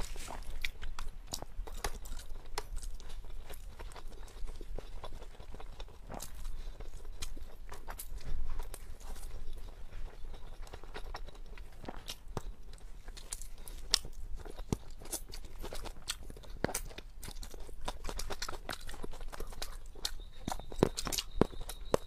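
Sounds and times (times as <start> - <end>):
person chewing and crunching food: 0.0 - 22.0.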